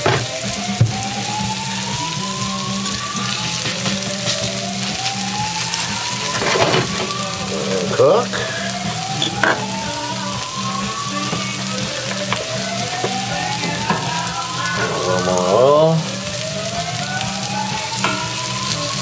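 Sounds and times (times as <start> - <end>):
potato pancake sizzling in a pan: 0.0 - 19.0.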